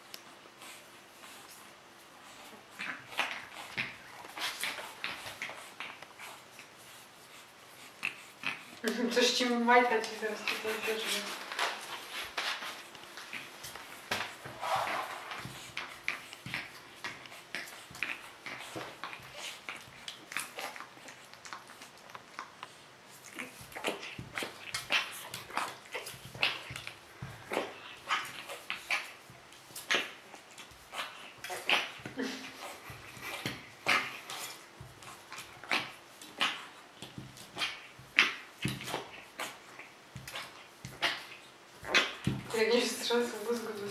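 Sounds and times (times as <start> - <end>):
puppy scuffling: 0.0 - 43.9.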